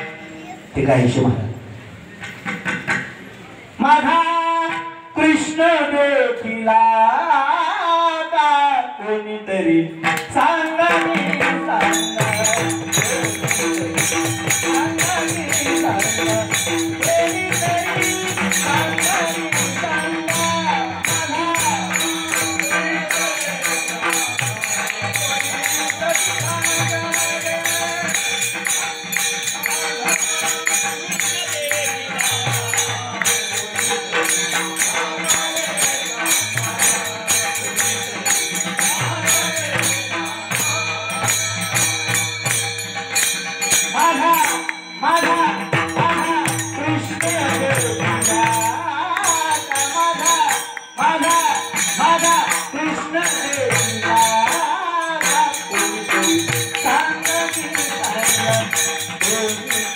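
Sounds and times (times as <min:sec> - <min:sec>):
harmonium: 0:00.0 - 0:59.9
person singing devotional song: 0:03.8 - 0:59.9
drum beat: 0:10.0 - 0:59.9
small hand cymbals: 0:10.9 - 0:59.9.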